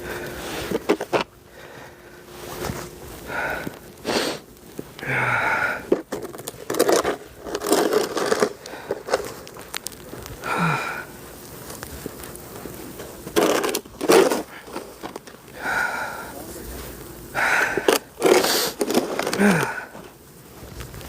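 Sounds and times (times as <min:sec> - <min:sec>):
snow shovel scraping snow: 0:00.0 - 0:04.5, 0:05.1 - 0:21.0
heavy breathing: 0:00.0 - 0:12.7, 0:14.0 - 0:20.1.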